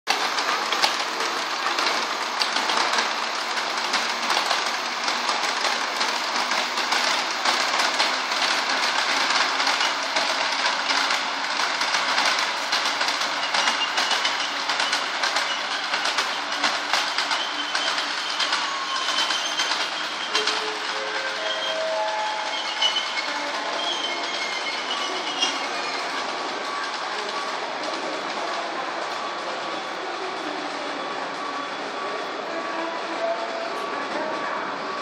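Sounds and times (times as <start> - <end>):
train wheels clicking over rails: 0.1 - 31.6.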